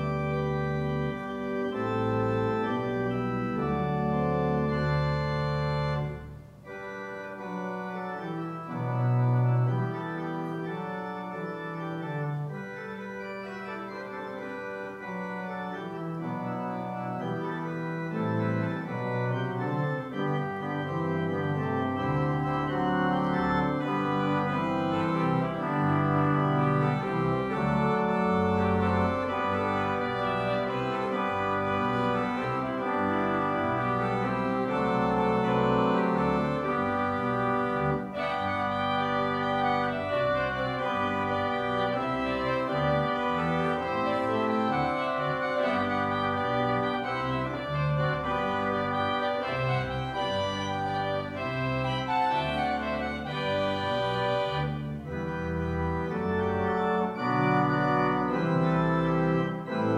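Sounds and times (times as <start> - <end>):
deep organ bass notes: 0.0 - 59.9
organ chords: 0.0 - 59.9.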